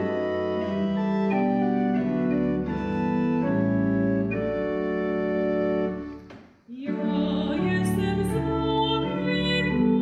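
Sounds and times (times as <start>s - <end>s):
organ playing hymn chords: 0.0s - 6.3s, 6.9s - 10.0s.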